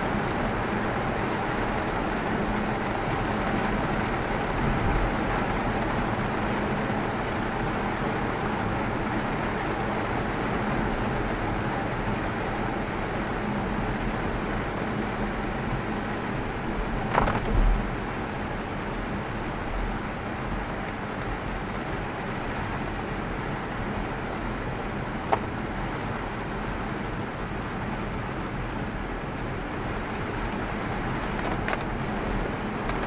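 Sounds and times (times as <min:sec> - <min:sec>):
tyre noise on wet road: 0:00.0 - 0:33.0.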